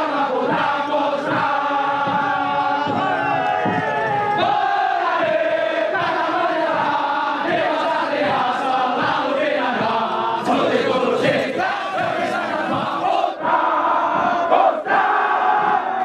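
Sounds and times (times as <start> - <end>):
group of men chanting: 0.0 - 16.0.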